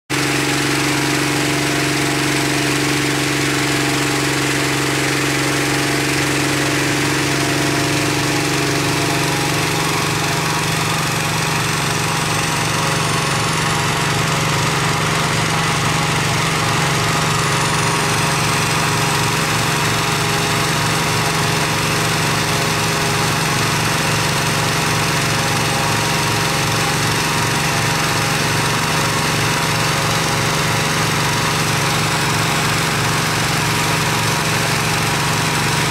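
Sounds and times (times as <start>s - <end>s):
engine-driven inflator fan running: 0.1s - 35.9s.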